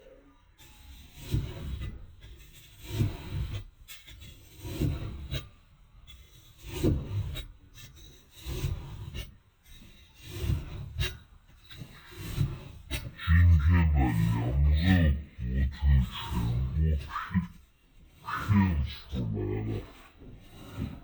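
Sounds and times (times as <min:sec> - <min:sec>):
slow rhythmic scraping: 0:00.6 - 0:21.0.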